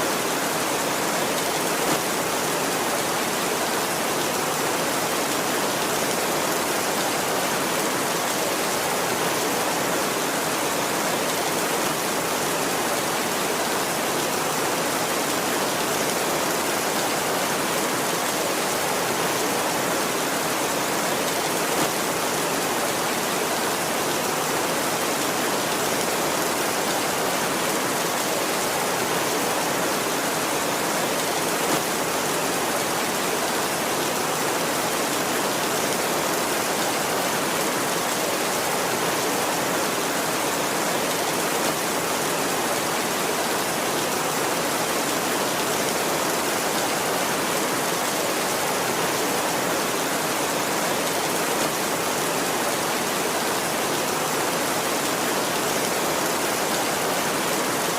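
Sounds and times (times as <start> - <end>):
heavy rain on a tin roof: 0.0 - 57.9.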